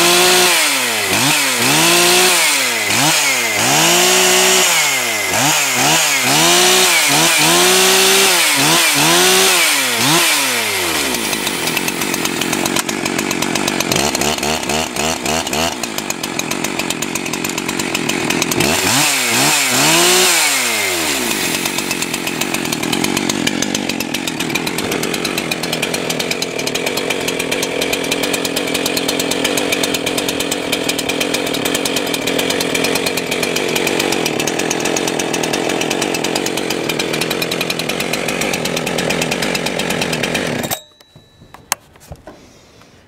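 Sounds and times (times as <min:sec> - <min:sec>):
chainsaw running: 0:00.0 - 0:43.0.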